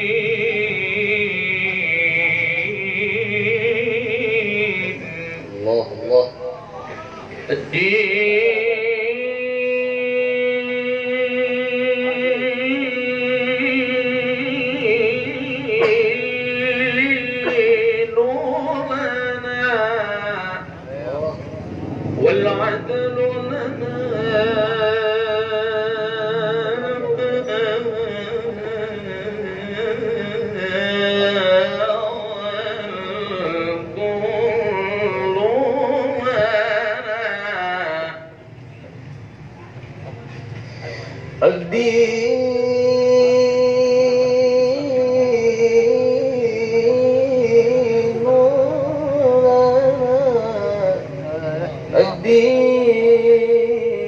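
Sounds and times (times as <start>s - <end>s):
man reciting melodically: 0.0s - 38.8s, 40.8s - 54.0s.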